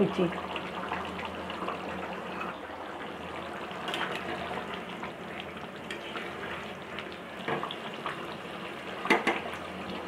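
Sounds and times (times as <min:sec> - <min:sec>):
gravy bubbling in a pan: 0:00.0 - 0:10.0.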